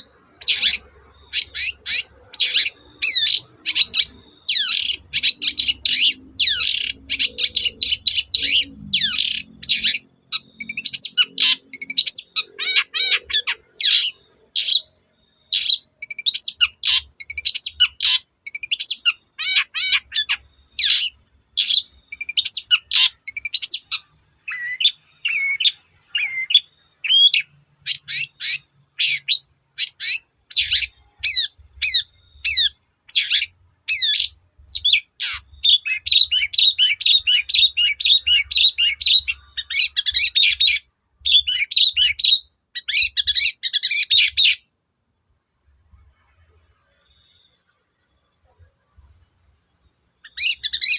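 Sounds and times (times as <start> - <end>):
bird singing chirps and trills: 0.0 - 44.7, 50.2 - 50.9.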